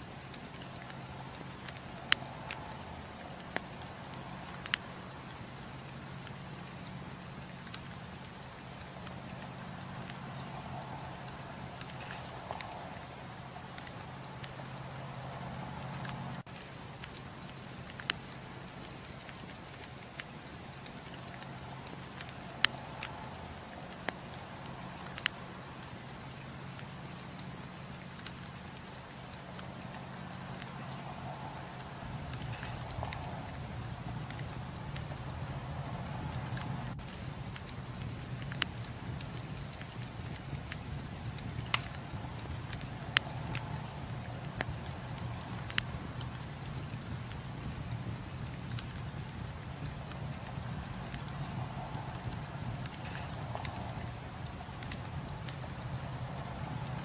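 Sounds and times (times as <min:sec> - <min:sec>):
fire crackling pops: 0:00.0 - 0:57.0
fire hissing: 0:00.0 - 0:57.0.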